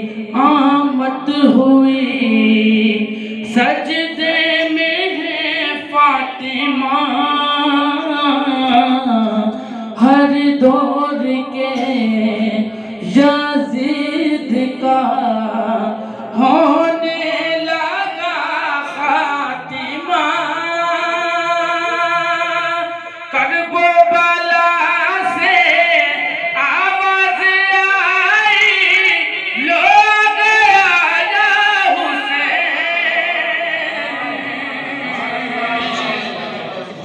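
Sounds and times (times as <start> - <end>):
man singing into a microphone: 0.0 - 36.4.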